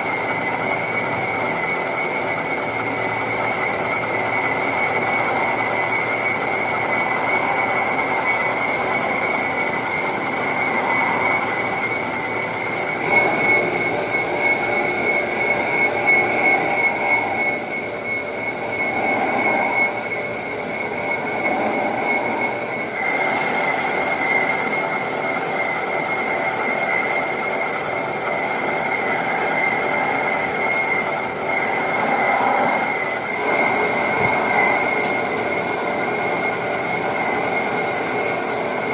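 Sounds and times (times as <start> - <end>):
cutting tool high-pitched squeal: 0.0 - 38.9
metal lathe cutting: 0.0 - 38.9.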